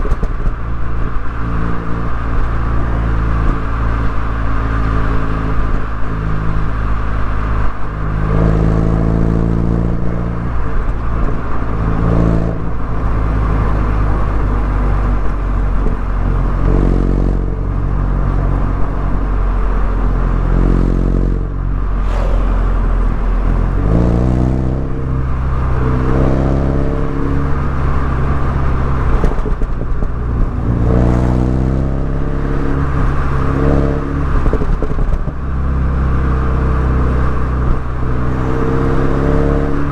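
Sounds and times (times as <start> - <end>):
road noise rumble: 0.0 - 39.9
car engine revving: 0.1 - 39.9.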